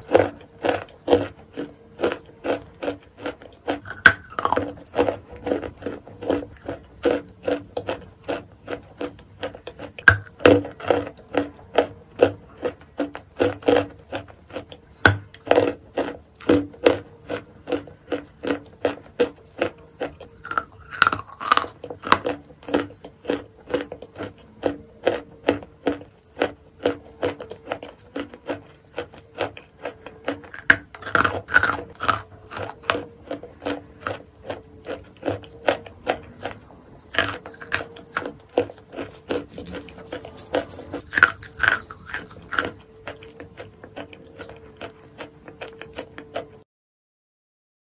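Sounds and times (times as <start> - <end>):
close-up wet chewing: 0.0 - 46.6.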